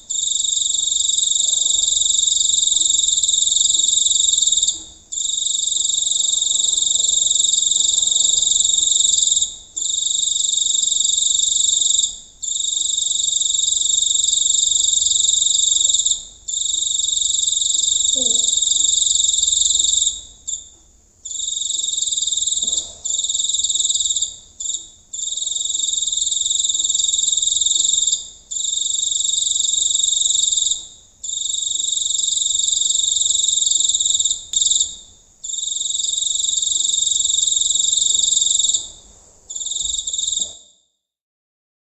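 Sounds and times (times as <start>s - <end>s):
cricket trilling: 0.1s - 40.8s.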